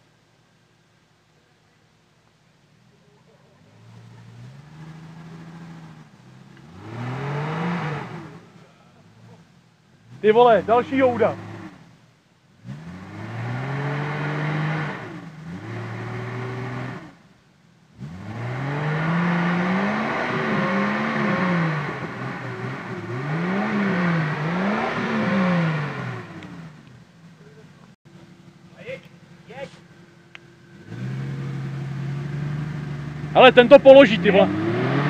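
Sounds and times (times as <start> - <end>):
off-road vehicle engine revving: 3.3 - 35.0.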